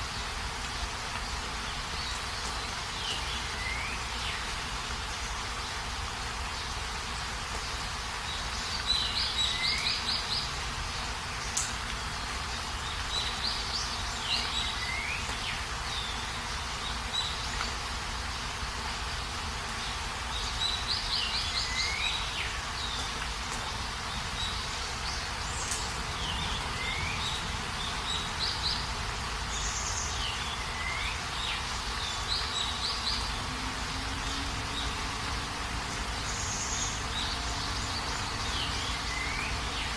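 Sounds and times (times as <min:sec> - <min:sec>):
birds calling: 0:00.0 - 0:39.9
rain hissing: 0:00.0 - 0:39.9.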